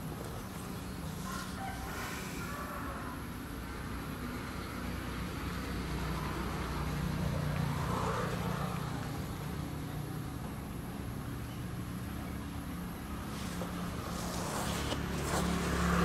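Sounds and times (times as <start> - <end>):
distant motor vehicle rumble: 0.0 - 16.0.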